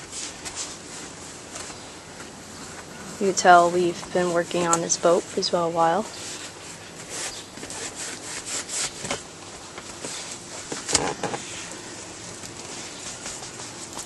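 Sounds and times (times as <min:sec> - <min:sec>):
rubbing and scraping: 0:02.5 - 0:14.0.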